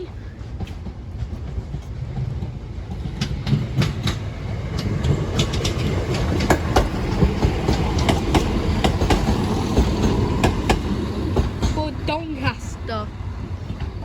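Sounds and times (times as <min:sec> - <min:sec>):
low train rumble: 0:00.0 - 0:14.0
wheels clacking over rail joints: 0:00.0 - 0:14.0.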